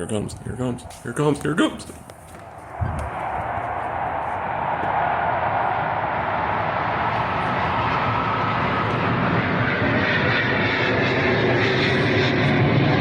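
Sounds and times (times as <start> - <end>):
jet flying by: 0.0 - 13.0.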